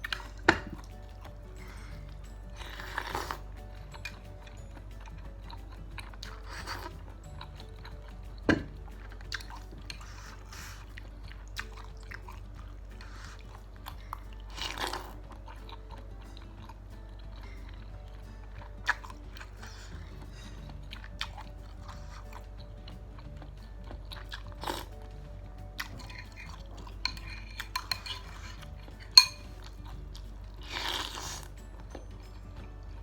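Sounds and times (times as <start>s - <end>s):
faint background music: 0.0s - 33.0s
person chewing: 0.0s - 33.0s
utensils clinking against bowl: 0.0s - 33.0s.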